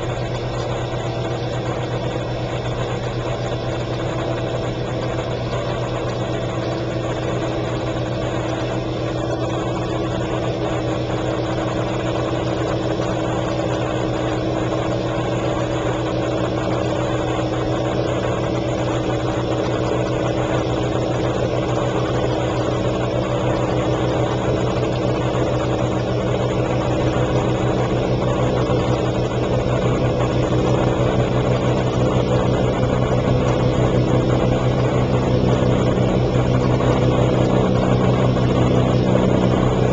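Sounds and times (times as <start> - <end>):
dishwasher motor hum: 0.0 - 39.9.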